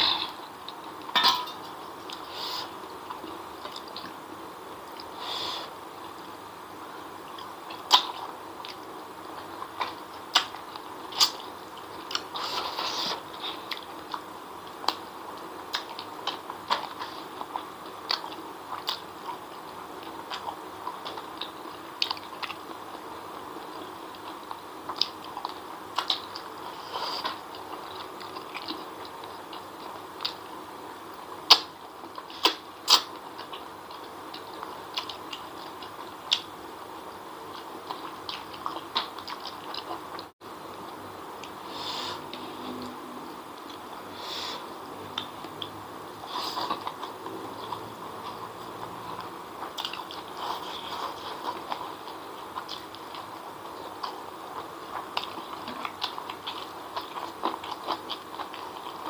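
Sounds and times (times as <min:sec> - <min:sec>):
person chewing food: 0:00.0 - 0:06.3, 0:07.2 - 0:30.5, 0:31.3 - 0:36.5, 0:37.5 - 0:59.0.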